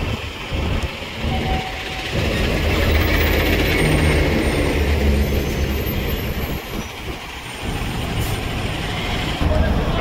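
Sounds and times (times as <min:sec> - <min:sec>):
heavy vehicle engine rumbling: 0:00.0 - 0:10.0.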